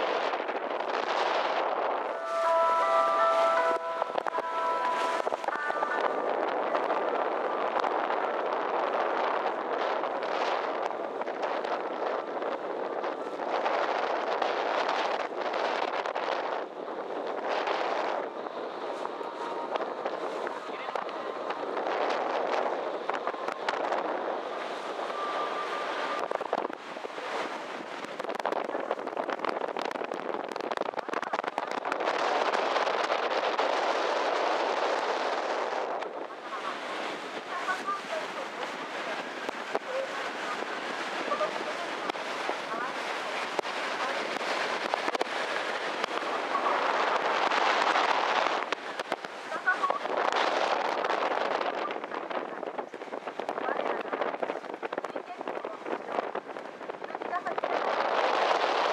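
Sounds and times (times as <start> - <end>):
water rushing past boat: 0.0 - 58.9
wind buffeting microphone: 0.0 - 58.9.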